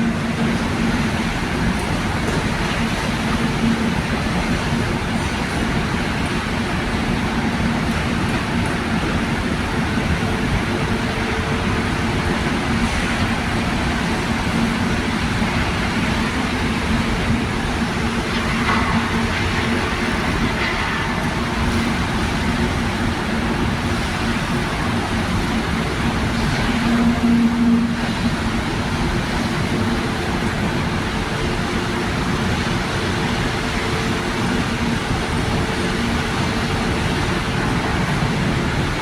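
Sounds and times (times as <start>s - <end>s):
mechanical running hum: 0.0s - 39.0s.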